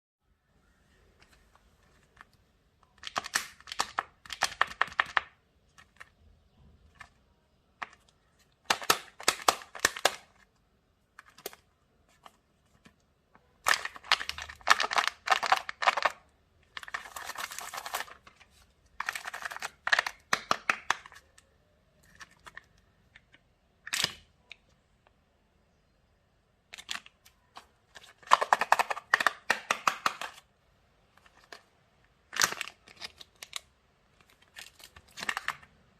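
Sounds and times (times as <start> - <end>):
plastic clicks and cracks: 1.2 - 25.2, 26.7 - 30.5, 31.1 - 35.9.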